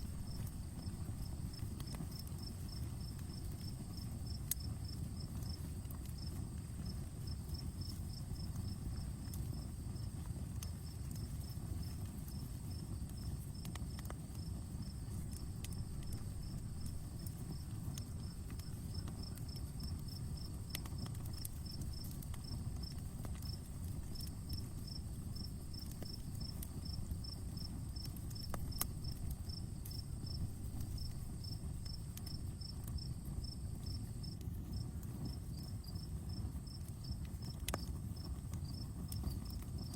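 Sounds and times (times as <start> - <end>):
campfire crackling: 0.0 - 39.9
crickets chirping: 0.0 - 39.9
high insect hum: 0.0 - 39.9.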